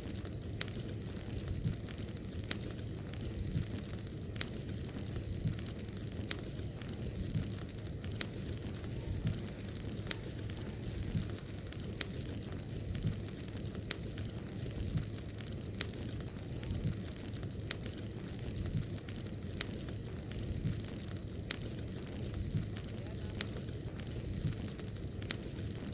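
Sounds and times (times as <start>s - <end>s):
bonfire flames crackling: 0.0s - 25.9s.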